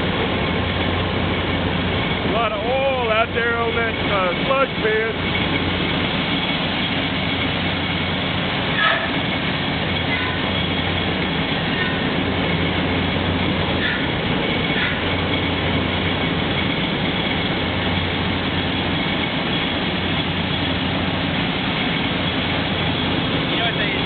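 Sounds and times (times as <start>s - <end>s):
drilling rig machinery: 0.0s - 24.0s.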